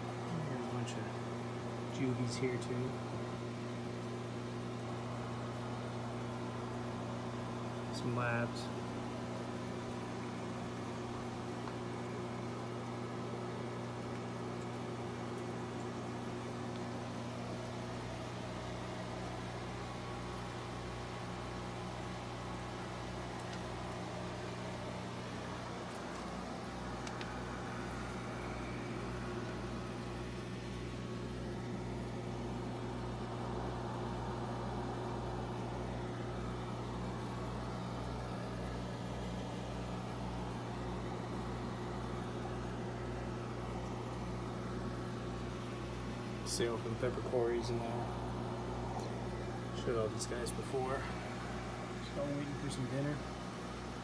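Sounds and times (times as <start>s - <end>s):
low hum of aquarium pumps: 0.0s - 54.0s.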